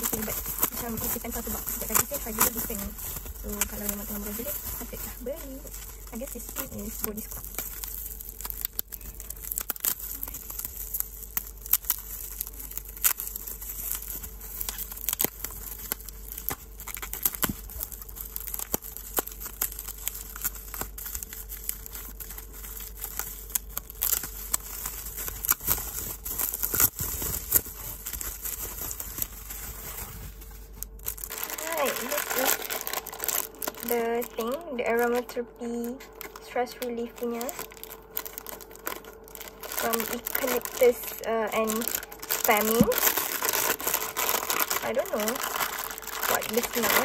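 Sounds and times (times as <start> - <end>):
bubble wrap crinkling: 0.0 - 47.0.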